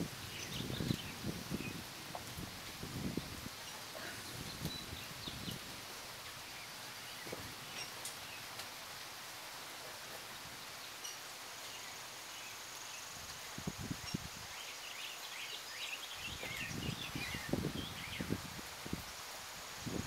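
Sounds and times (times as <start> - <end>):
small birds chirping: 0.0 - 20.0
steady hiss: 0.0 - 20.0.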